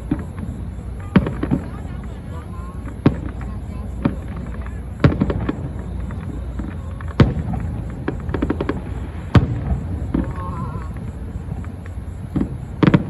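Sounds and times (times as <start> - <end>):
fireworks bangs: 0.0 - 13.0
fireworks popping and crackling: 0.0 - 13.0.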